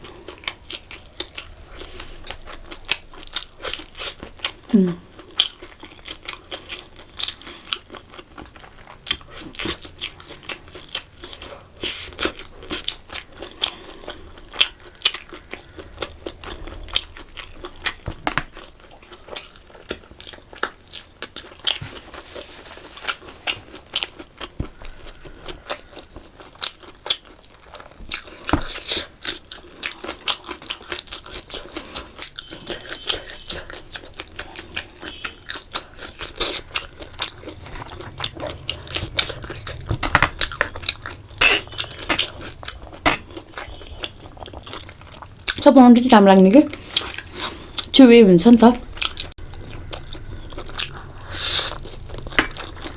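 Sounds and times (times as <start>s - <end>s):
wet chewing and smacking: 0.0s - 22.4s, 23.0s - 48.1s, 48.8s - 52.9s.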